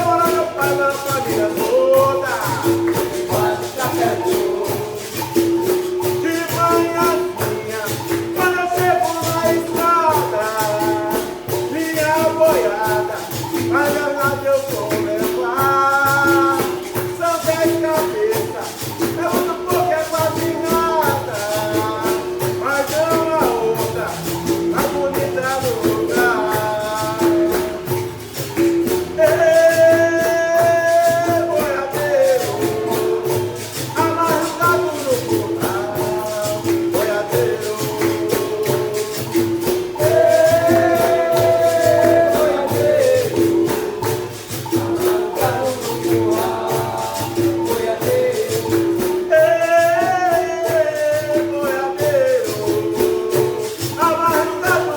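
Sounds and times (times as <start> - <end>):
berimbau: 0.0 - 54.9
pandeiro rhythm: 0.0 - 54.9
person singing: 0.0 - 54.9.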